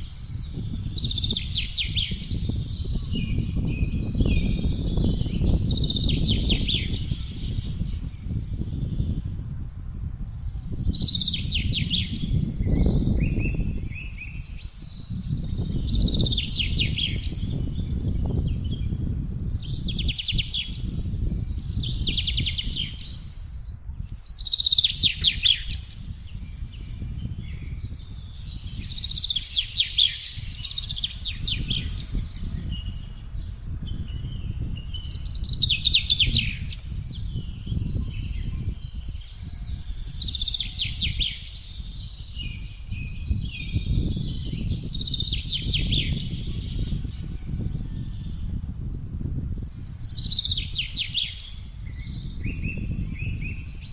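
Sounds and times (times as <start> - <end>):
songbirds singing: 0.0 - 53.9
wind gusting: 0.0 - 53.9.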